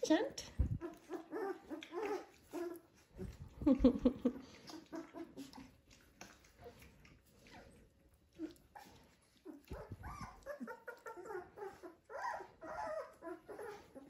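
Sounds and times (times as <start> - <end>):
puppy whimpering: 0.6 - 3.6, 4.3 - 14.0.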